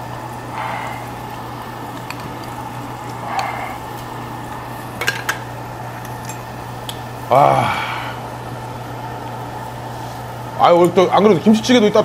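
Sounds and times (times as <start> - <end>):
low hum: 0.0 - 10.6
meat sizzling on grill: 0.0 - 12.0.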